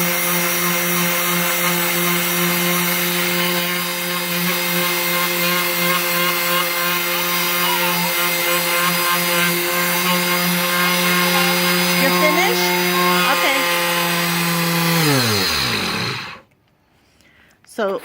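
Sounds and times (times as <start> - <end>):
sander motor hum: 0.0 - 16.4.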